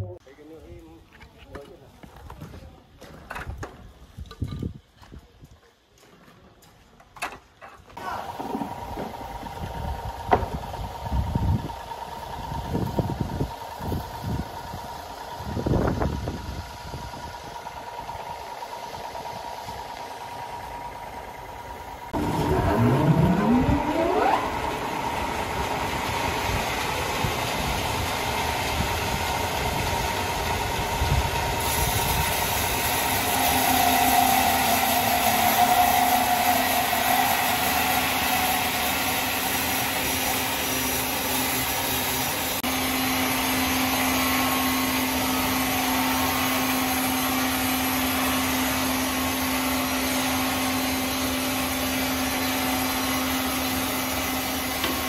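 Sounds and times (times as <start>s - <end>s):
sawmill motor humming: 8.0s - 55.0s.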